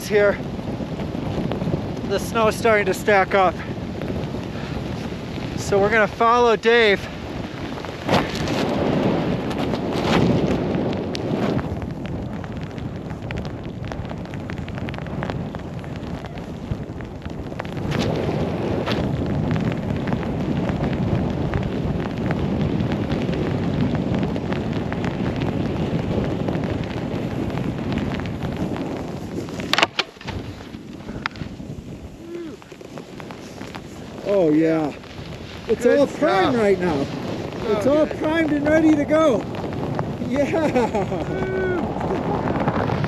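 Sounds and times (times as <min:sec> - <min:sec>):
snowboard scraping over snow: 0:00.0 - 0:43.0
wind buffeting microphone: 0:00.0 - 0:43.0.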